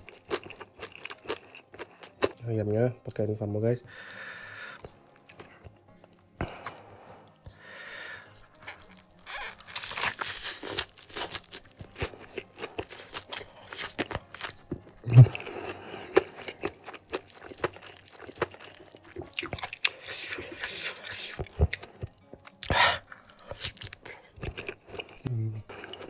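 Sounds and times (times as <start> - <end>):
crunching and chewing: 0.0 - 2.5, 4.8 - 7.5, 8.2 - 26.0.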